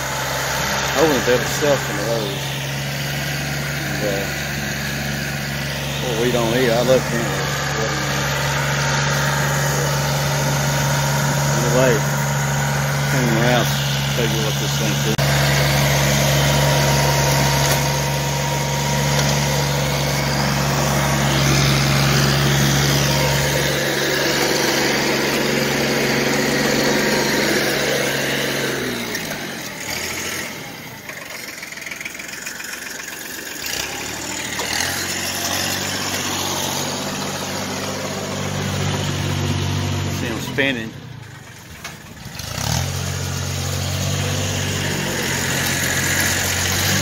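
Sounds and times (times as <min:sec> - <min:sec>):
rotary tiller churning soil: 0:00.0 - 0:47.0
tractor engine running: 0:00.0 - 0:47.0.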